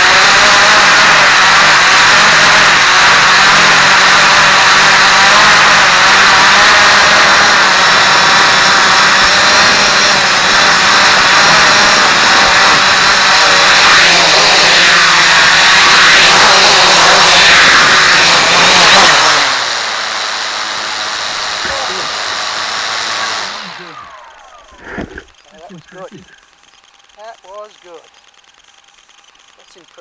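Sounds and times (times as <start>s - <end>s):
drone propellers whirring: 0.0s - 30.0s.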